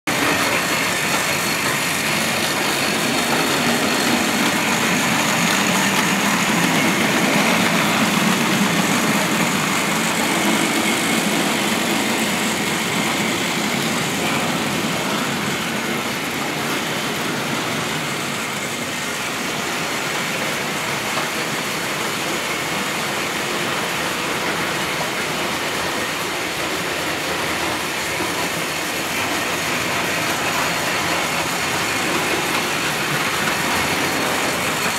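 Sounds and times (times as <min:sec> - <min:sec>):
model train running on track: 0:00.1 - 0:34.9
rolling wheel noise: 0:00.1 - 0:34.9.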